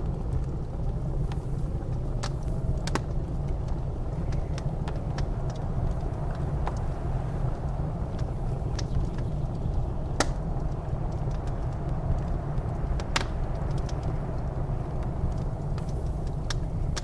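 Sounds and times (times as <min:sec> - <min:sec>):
blizzard wind rushing: 0:00.0 - 0:17.0
wood fire crackling and popping: 0:00.0 - 0:17.0.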